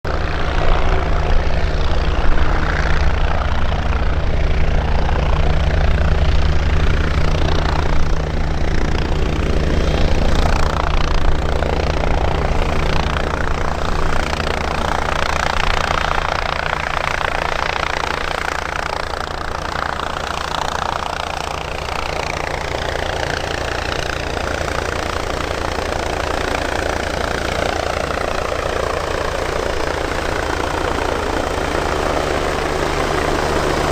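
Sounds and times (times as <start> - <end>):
helicopter rotor and engine drone: 0.0 - 33.9
helicopter turbine hiss: 0.1 - 33.9.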